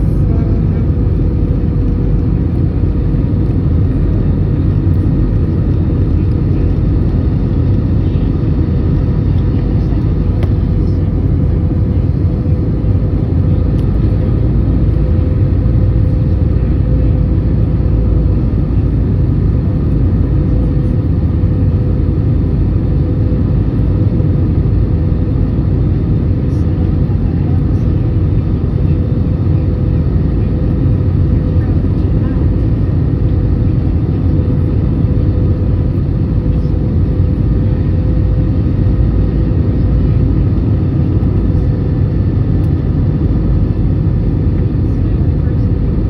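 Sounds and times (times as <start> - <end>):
jet airliner cabin roar: 0.0 - 46.0.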